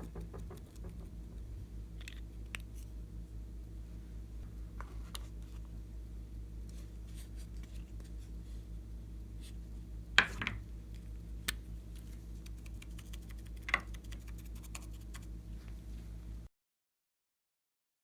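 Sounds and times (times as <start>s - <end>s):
low steady hum: 0.0s - 16.5s.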